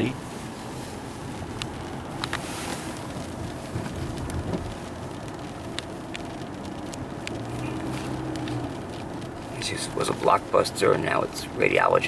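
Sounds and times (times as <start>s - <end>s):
car cabin road noise: 0.0s - 12.0s
raindrops ticking on windshield: 0.0s - 12.0s.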